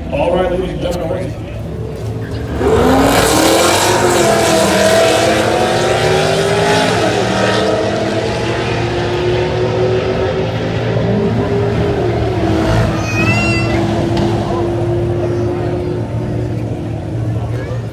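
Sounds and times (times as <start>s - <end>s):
car engine accelerating hard: 0.0s - 17.9s.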